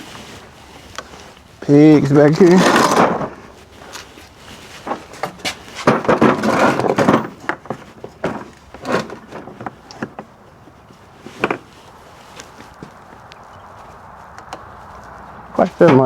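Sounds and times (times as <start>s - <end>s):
clattering knocks and scraping: 2.0s - 16.0s.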